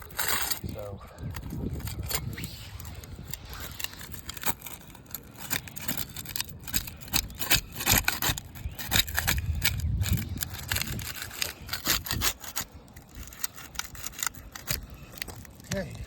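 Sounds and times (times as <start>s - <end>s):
putty knife scraping shingle: 1.4s - 16.0s.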